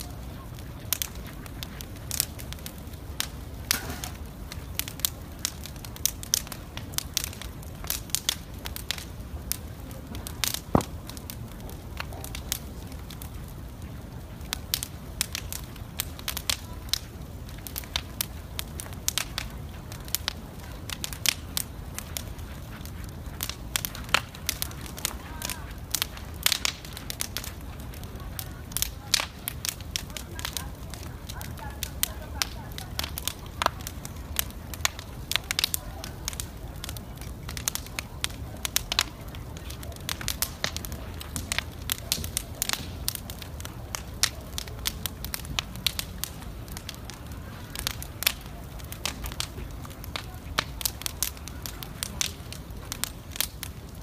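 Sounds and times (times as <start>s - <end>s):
bonfire crackling and popping: 0.0s - 54.0s
low fire rumble: 0.0s - 54.0s.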